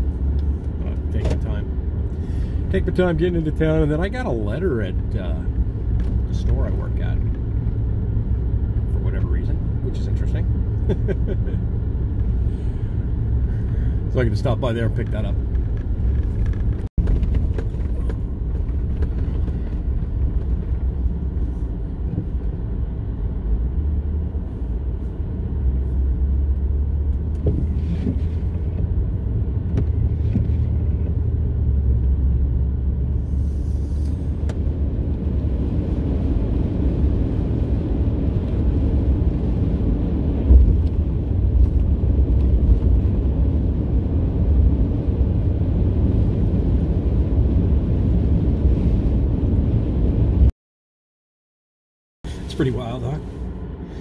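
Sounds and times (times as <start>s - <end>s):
car driving on snowy road: 0.0s - 50.5s, 52.3s - 54.0s.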